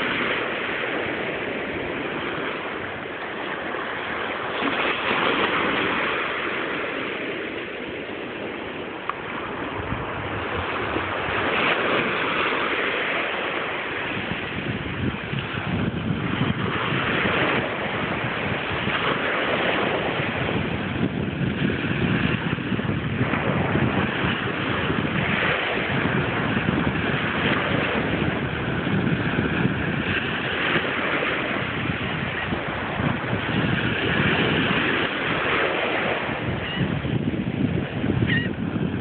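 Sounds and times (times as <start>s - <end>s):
waves washing onto sandy beach: 0.0s - 39.0s
wind on microphone: 0.0s - 39.0s.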